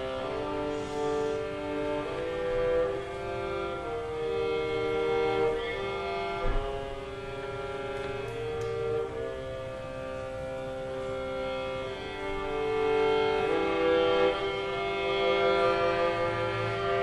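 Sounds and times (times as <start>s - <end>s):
solo viola double stops: 0.0s - 17.0s.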